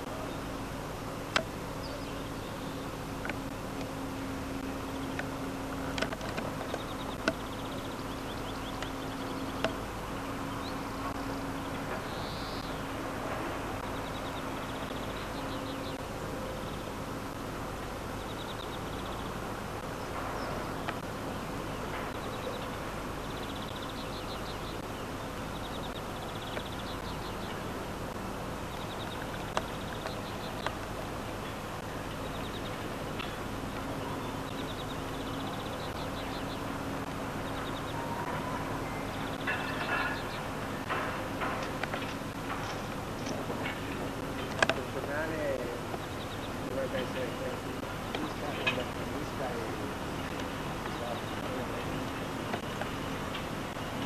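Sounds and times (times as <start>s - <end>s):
birds or insects chirping trills: 0.0s - 54.0s
faint hum: 0.0s - 54.0s.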